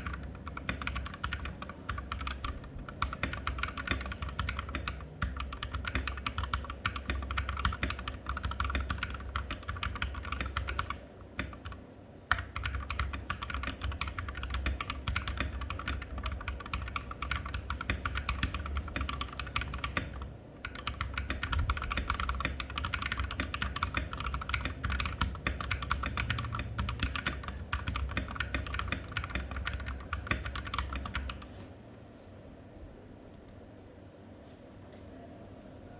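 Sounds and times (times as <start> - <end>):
mechanical keyboard typing: 0.0 - 31.5.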